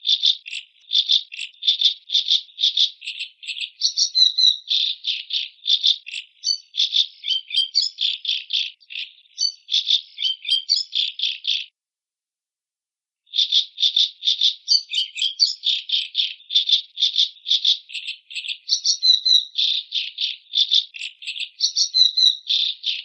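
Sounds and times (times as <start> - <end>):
macaw harsh rattling calls: 0.0 - 11.7, 13.3 - 23.0.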